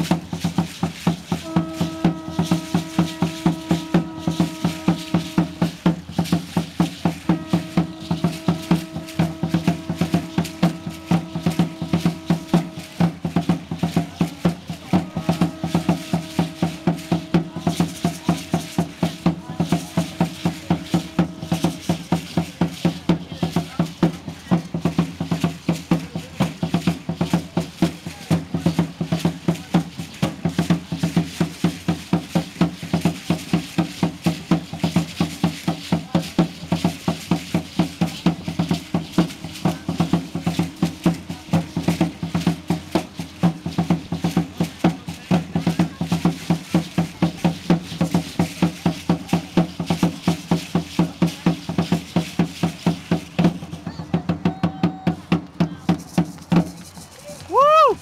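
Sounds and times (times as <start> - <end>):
ankle seed-pod rattles shaking: 0.0 - 58.0
drum beaten fast: 0.0 - 58.0.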